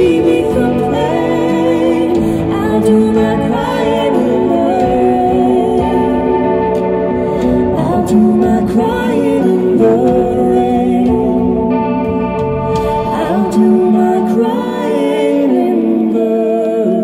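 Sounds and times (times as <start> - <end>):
man and woman singing: 0.0 - 12.1, 12.8 - 17.0
live pop-rock band: 0.0 - 17.0.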